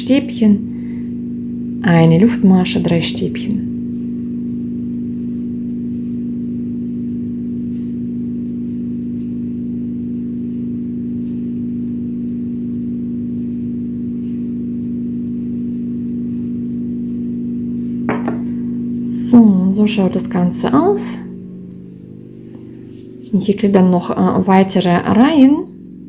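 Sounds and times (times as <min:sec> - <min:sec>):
low droning music: 0:00.0 - 0:26.0.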